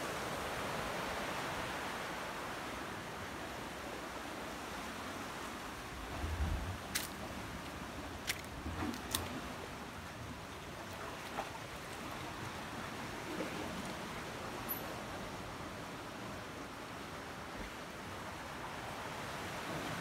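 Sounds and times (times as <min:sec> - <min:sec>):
gentle surf: 0:00.0 - 0:20.0.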